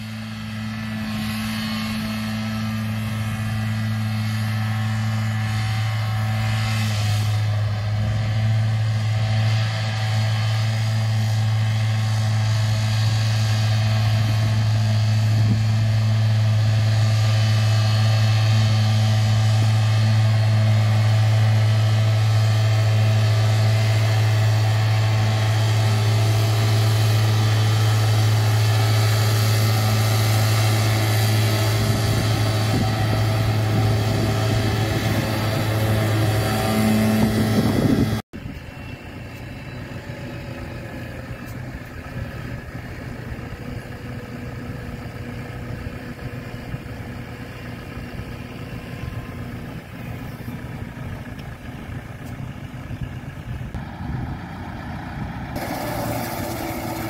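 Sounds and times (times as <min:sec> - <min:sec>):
tractor mower droning: 0:00.0 - 0:57.0.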